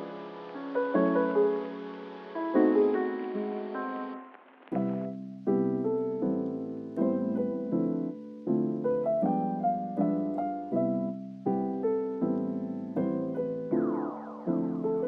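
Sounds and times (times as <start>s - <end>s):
lo-fi piano-like keyboard chords: 0.0s - 15.0s.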